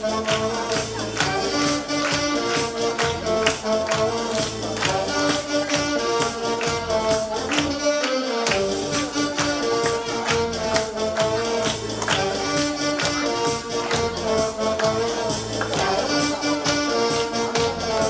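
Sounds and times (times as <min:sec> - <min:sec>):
alto saxophones playing melody: 0:00.0 - 0:18.0
drum and percussion beat: 0:00.0 - 0:18.0.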